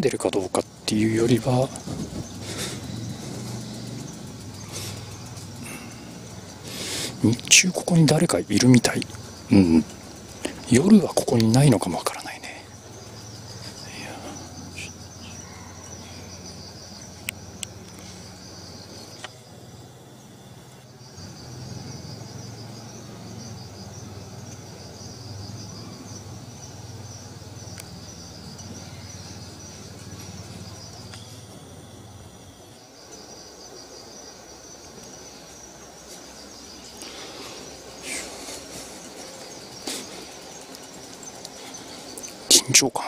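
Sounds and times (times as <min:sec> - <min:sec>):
insects chirping: 0:00.0 - 0:43.0
low steady hum: 0:00.0 - 0:43.0.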